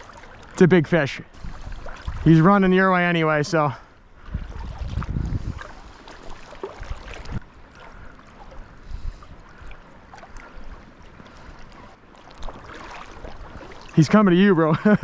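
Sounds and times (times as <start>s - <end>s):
river water running: 0.0s - 15.0s.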